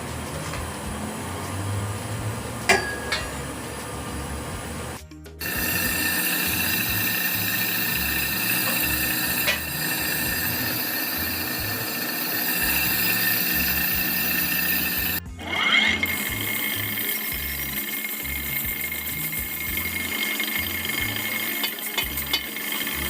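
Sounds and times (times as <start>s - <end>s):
machine with metallic whine: 0.6s - 23.0s.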